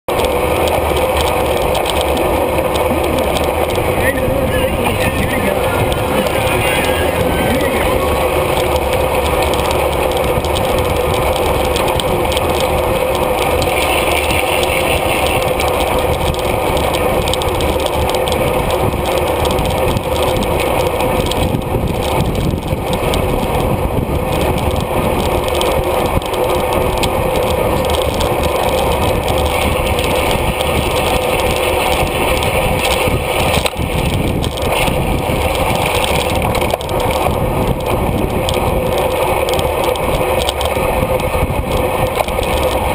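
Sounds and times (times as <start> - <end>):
bicycle road noise: 0.0 - 42.9
wind rush: 0.1 - 42.9.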